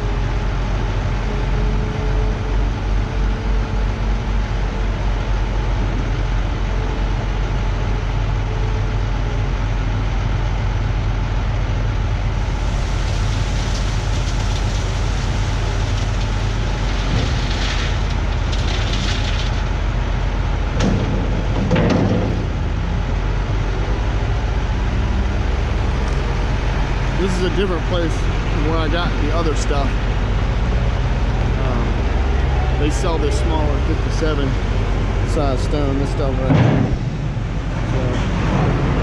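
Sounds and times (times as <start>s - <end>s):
dump truck engine running: 0.0s - 39.0s.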